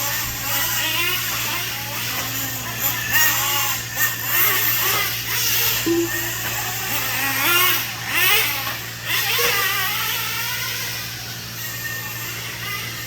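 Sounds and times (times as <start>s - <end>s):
small nitro engines revving: 0.0s - 13.0s.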